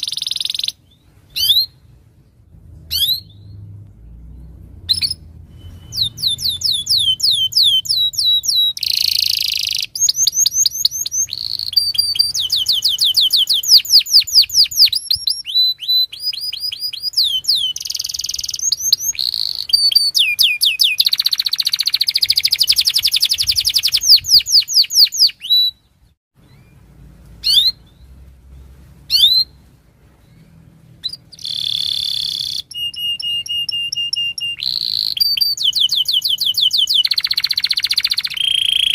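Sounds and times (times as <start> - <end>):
canary singing trills: 0.0 - 1.9, 2.8 - 26.8, 27.4 - 38.9.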